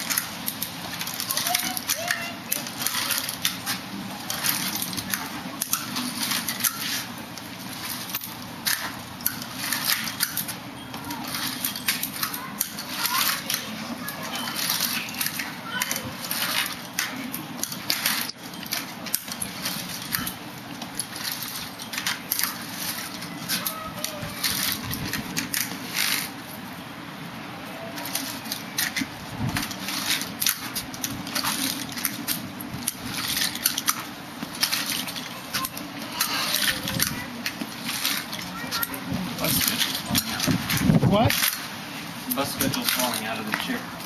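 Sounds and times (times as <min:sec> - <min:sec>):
walker rattling on concrete: 0:00.0 - 0:44.0.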